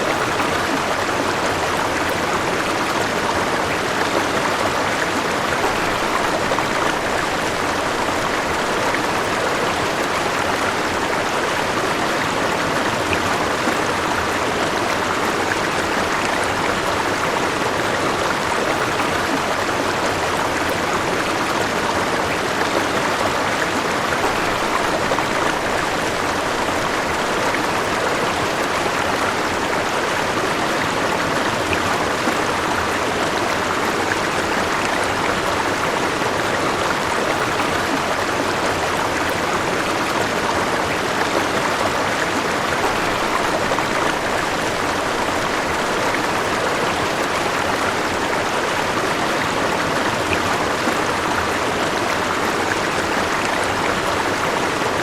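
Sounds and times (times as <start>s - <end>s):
water running over rocks: 0.0s - 55.0s.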